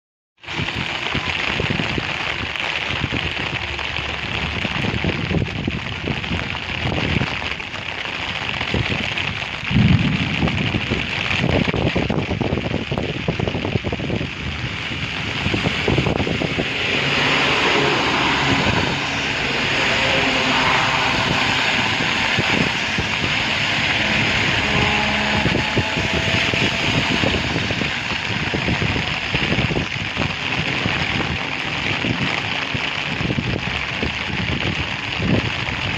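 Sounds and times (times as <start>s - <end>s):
rain hissing: 0.4s - 35.9s
wind gusting against microphone: 0.4s - 35.9s.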